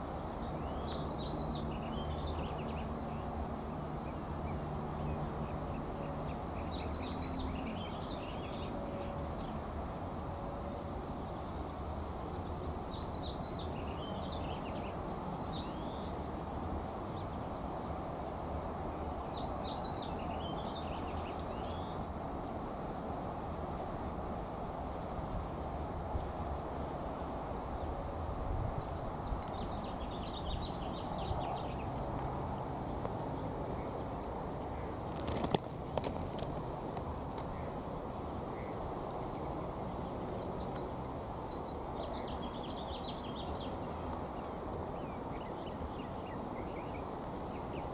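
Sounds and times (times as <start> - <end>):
small birds twittering: 0.0 - 10.2, 12.3 - 17.6, 18.2 - 22.8, 24.0 - 25.3, 25.9 - 47.9.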